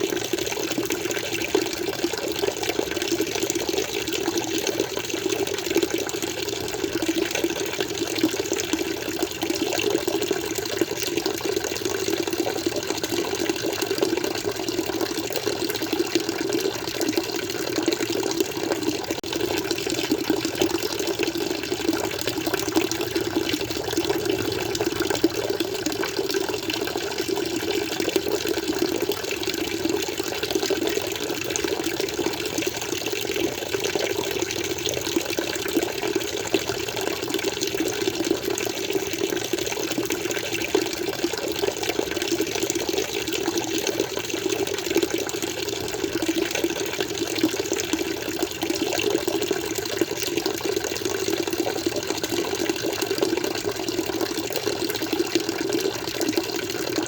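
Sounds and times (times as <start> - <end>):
water flowing and splashing: 0.0 - 57.0.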